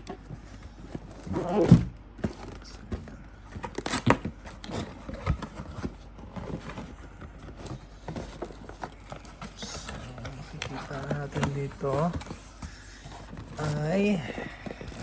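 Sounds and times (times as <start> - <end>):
cardboard packaging being opened: 0.0 - 15.0.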